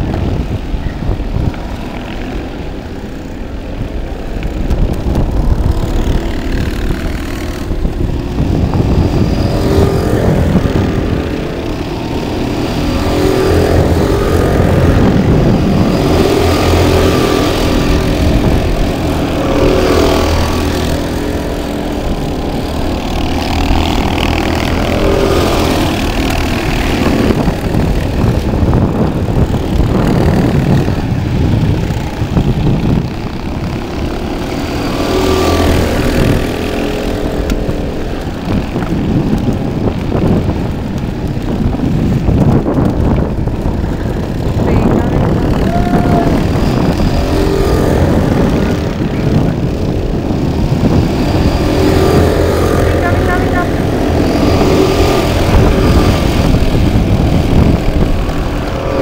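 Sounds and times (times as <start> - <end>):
go-kart engines racing: 0.0 - 59.0.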